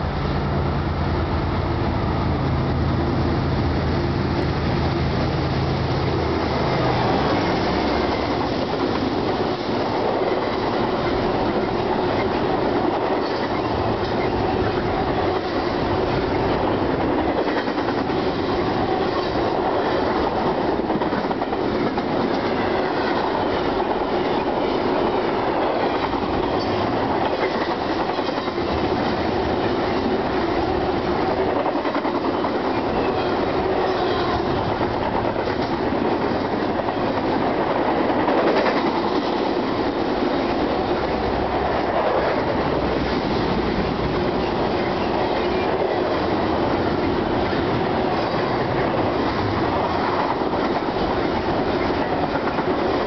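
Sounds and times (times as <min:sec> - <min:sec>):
diesel locomotive engine: 0:00.0 - 0:53.0
train cars rumbling: 0:00.0 - 0:53.0
wheels clacking over rail joints: 0:04.3 - 0:53.0.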